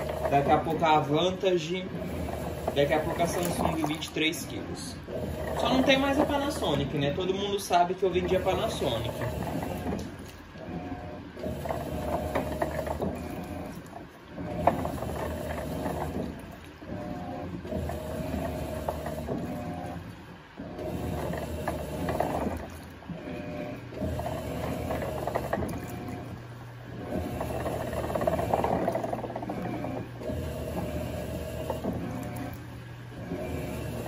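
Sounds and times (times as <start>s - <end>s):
washing machine agitating: 0.0s - 34.0s.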